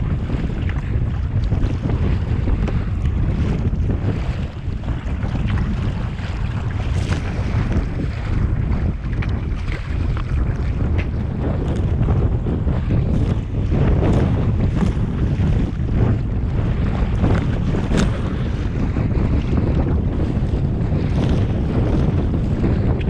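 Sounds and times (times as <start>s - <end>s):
water lapping and splashing: 0.0s - 23.0s
wind buffeting microphone: 0.0s - 23.0s.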